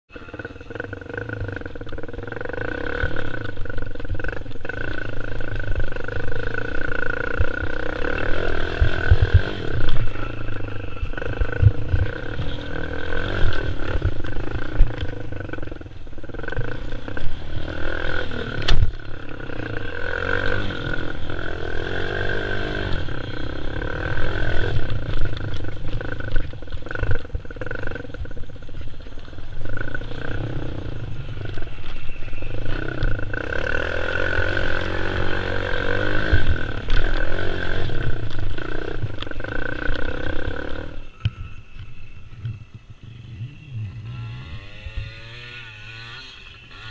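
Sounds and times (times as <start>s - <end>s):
quad bike engine revving: 0.1s - 28.7s, 29.4s - 41.1s, 43.3s - 46.9s.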